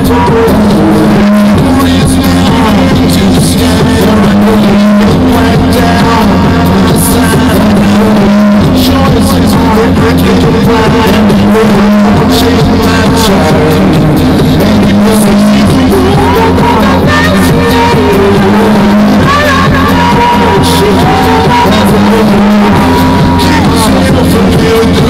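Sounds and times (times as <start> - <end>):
loud electronic music: 0.0 - 25.0
man singing into a microphone: 0.0 - 25.0.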